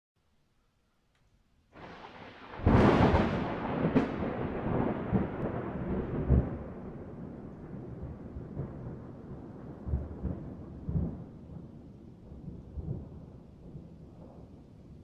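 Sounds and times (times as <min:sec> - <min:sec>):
thunder: 0:01.8 - 0:15.0.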